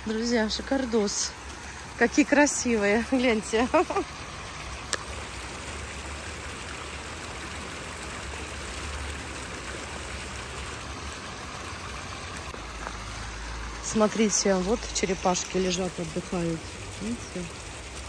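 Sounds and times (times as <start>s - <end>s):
fountain water splashing: 0.0s - 18.0s.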